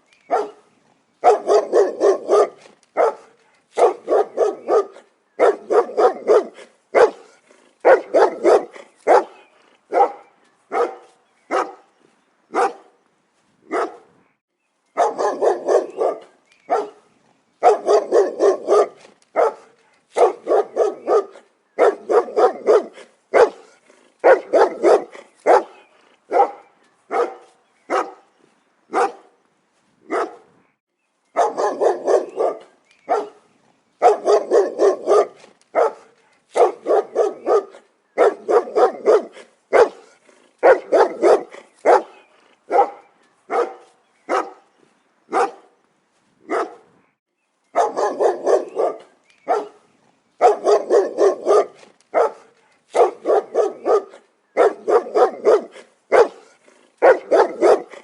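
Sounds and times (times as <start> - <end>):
dog barking sharply: 1.2 - 11.8, 12.5 - 12.9, 13.7 - 14.0, 15.0 - 17.0, 17.6 - 28.2, 28.9 - 29.3, 30.1 - 30.4, 31.4 - 33.4, 34.0 - 44.6, 45.3 - 45.7, 46.5 - 46.8, 47.8 - 49.8, 50.4 - 58.0.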